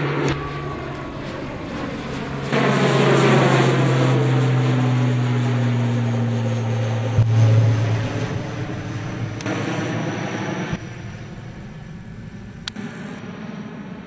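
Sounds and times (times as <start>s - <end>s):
jet airliner engine rush: 0.0s - 14.0s.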